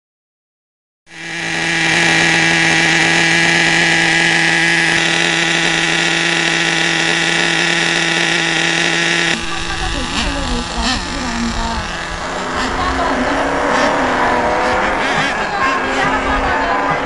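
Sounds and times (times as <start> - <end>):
small engine buzzing whine: 1.1 - 17.0.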